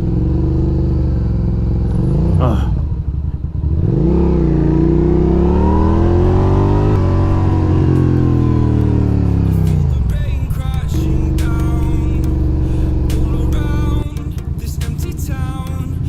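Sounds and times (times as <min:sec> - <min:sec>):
motorcycle engine under throttle: 0:00.0 - 0:16.0.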